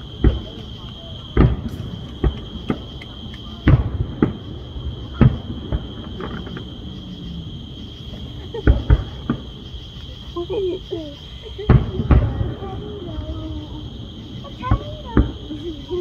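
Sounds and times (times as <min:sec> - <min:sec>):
distant firework booms: 0:00.0 - 0:09.9, 0:11.5 - 0:15.9
crickets chirring: 0:00.0 - 0:16.0.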